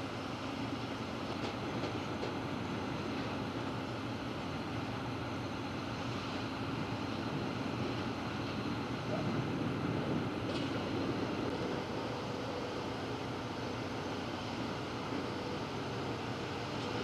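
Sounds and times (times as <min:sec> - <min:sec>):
faint continuous hum: 0:00.0 - 0:17.0
heavy machinery rumble: 0:00.0 - 0:17.0.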